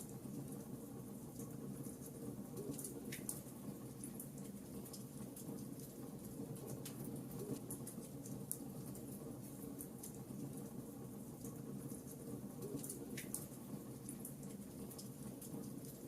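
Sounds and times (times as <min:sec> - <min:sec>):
low rumble of burning logs: 0:00.0 - 0:16.0.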